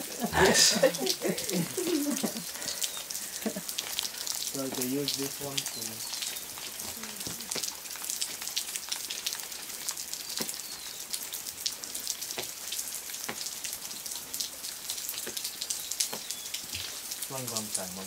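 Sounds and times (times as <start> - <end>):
raindrops ticking: 0.0 - 18.0
steady rain: 0.0 - 18.0.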